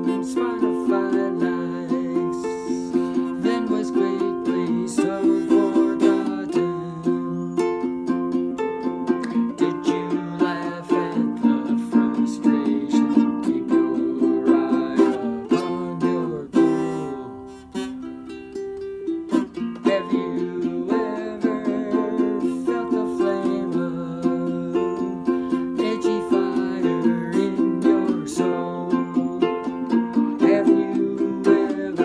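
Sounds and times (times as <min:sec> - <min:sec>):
man singing: 0:00.0 - 0:32.0
ukulele strumming: 0:00.0 - 0:32.0.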